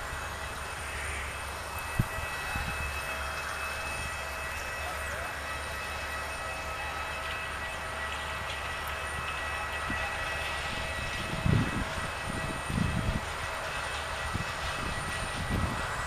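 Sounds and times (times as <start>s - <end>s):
distant jet engines whining: 0.0s - 16.0s.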